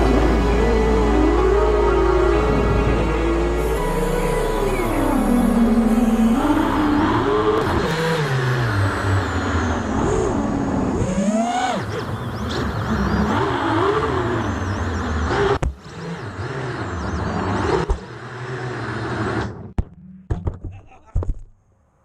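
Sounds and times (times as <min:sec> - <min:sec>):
drone propellers whining: 0:00.0 - 0:19.7.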